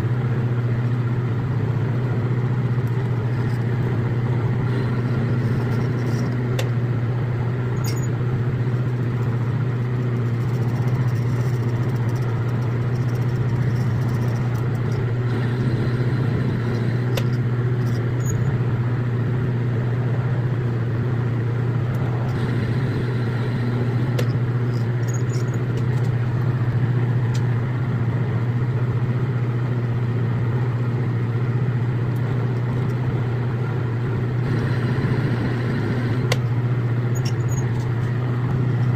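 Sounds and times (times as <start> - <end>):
metal lathe humming: 0.8 - 28.0, 32.4 - 38.9.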